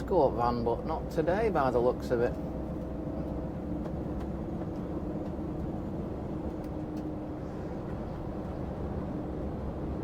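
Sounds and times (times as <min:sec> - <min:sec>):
engine and road noise drone: 0:00.0 - 0:10.0.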